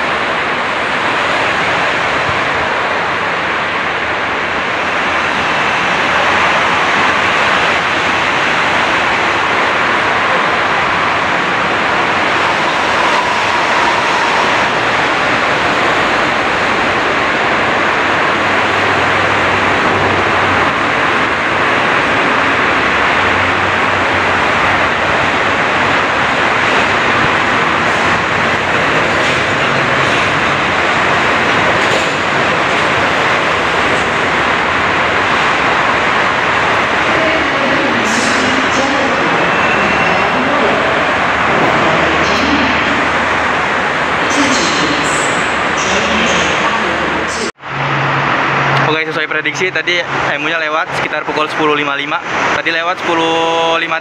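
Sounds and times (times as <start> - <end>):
loud rushing transport noise: 0.0 - 54.0.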